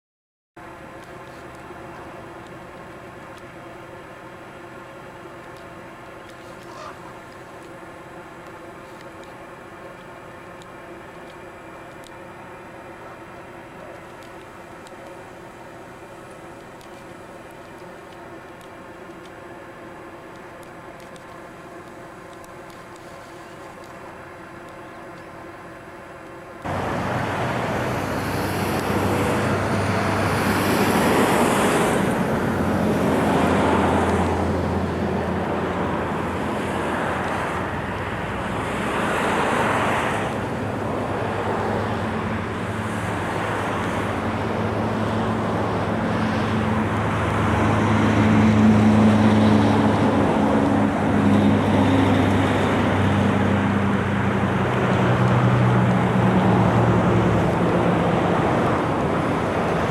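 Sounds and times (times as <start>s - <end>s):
large engine droning: 0.6s - 59.9s.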